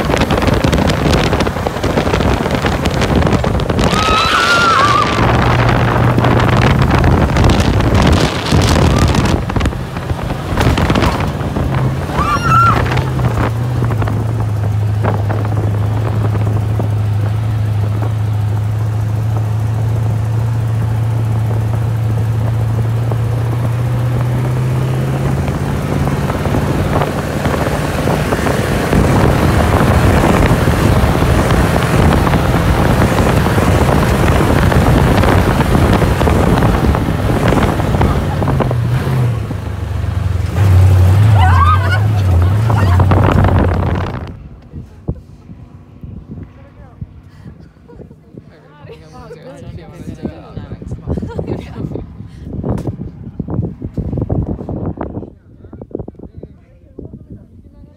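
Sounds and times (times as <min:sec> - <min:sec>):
dune buggy engine running: 0:00.0 - 0:57.9
wind buffeting microphone: 0:00.0 - 0:57.9.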